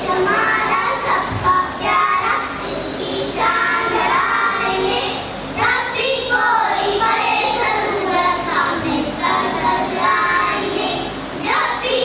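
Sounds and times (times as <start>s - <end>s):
young children singing: 0.0s - 12.0s.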